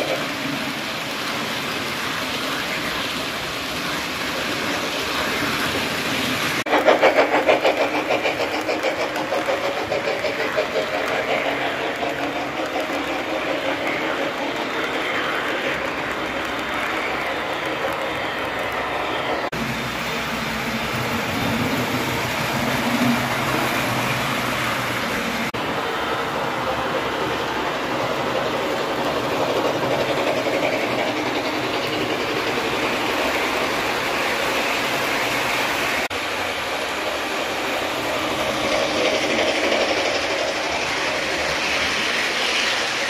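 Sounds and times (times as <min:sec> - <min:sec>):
model train wheels on rails: 0:00.0 - 0:43.0.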